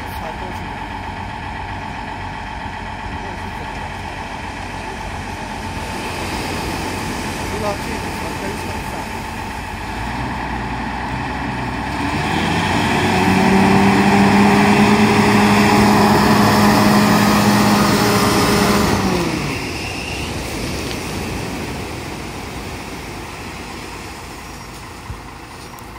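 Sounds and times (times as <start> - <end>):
diesel engine revving: 0.0 - 25.9
surf on shingle beach: 0.0 - 25.9.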